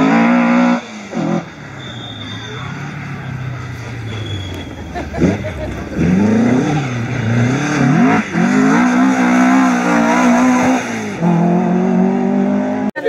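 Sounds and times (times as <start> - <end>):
rally car engine high revs: 0.0 - 13.0.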